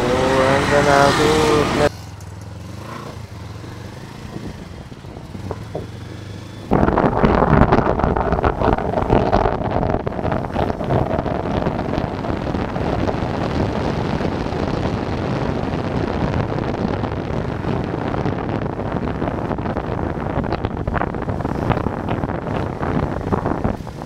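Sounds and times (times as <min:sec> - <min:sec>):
wind rushing over microphone: 0:00.0 - 0:01.9, 0:02.6 - 0:24.0.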